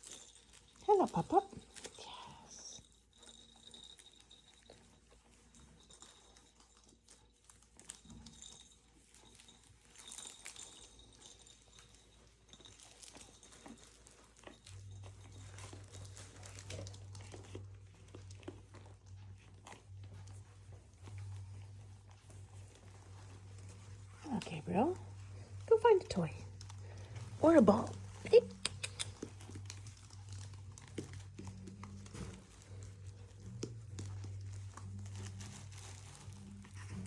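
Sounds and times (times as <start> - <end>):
low steady hum: 0.0 - 37.0
puppies scuffling and rustling: 0.0 - 37.0.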